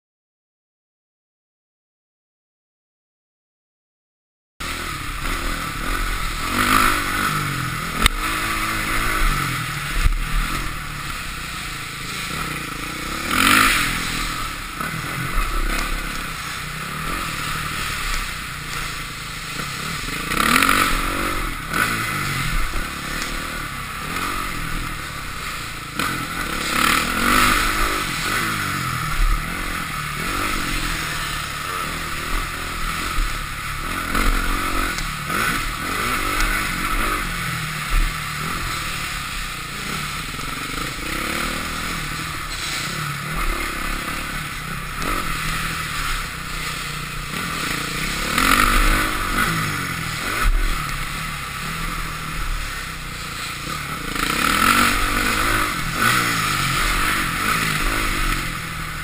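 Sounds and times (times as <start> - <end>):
motorcycle engine revving: 4.6 - 59.0.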